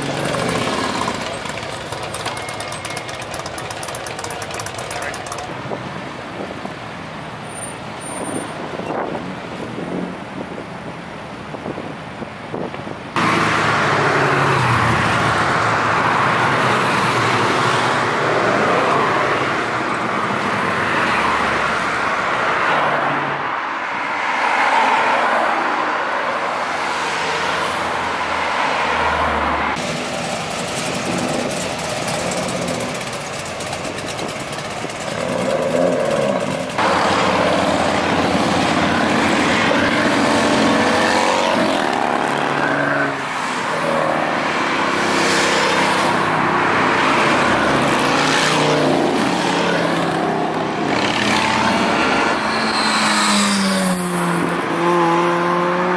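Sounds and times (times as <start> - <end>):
cars driving past: 0.0 - 10.6, 12.5 - 55.9
tyre and road noise: 0.0 - 55.9.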